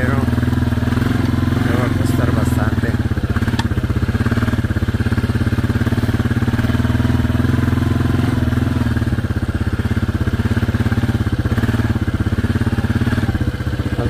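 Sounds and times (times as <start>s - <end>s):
small vehicle engine puttering: 0.0s - 14.0s.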